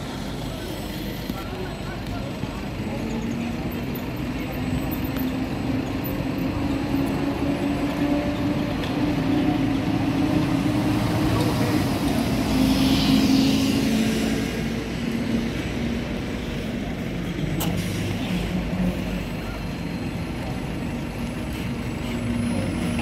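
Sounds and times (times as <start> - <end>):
bus engine hum approaching: 0.0 - 23.0
bus engine passing: 0.0 - 23.0
road noise: 0.0 - 23.0.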